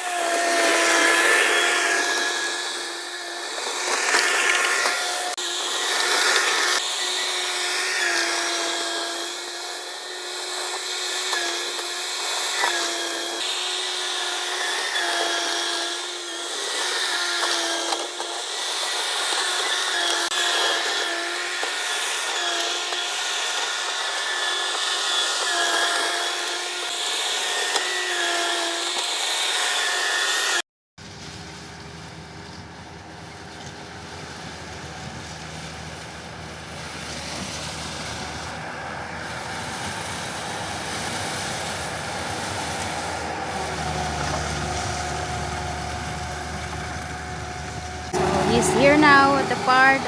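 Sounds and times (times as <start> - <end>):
skid steer engine running: 0.0 - 28.2, 31.0 - 50.0.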